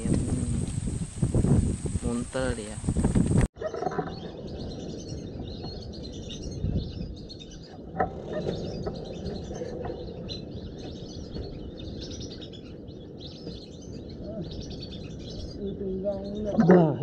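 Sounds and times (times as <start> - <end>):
birds chirping: 0.0 - 17.0
wind rumble on microphone: 0.0 - 17.0.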